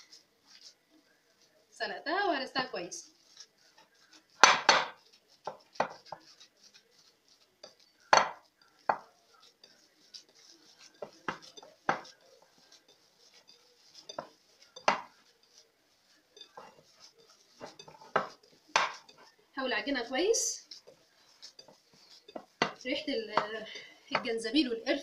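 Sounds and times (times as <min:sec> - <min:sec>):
hands kneading minced meat: 0:00.0 - 0:25.0.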